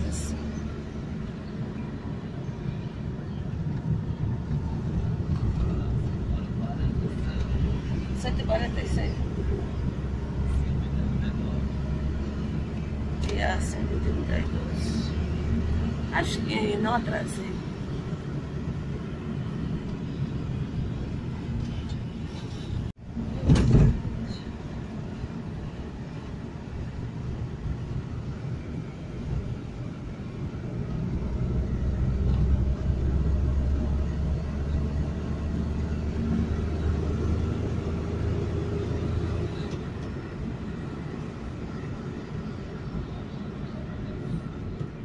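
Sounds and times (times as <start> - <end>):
car road noise and engine hum: 0.0 - 45.0.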